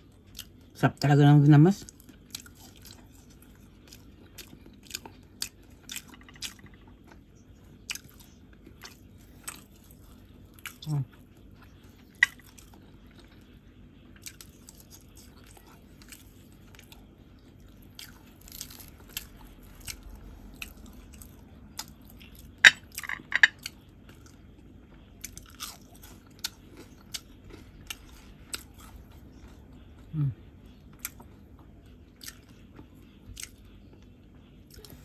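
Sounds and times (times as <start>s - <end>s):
close chewing and biting: 1.8s - 13.6s, 14.2s - 23.0s, 23.6s - 35.0s.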